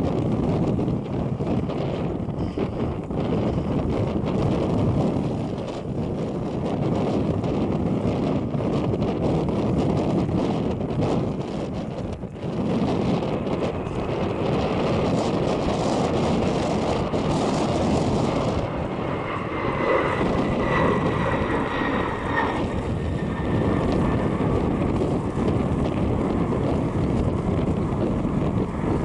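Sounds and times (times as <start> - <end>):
jet engines rumbling: 0.0 - 29.0
wind buffeting microphone: 0.0 - 29.0.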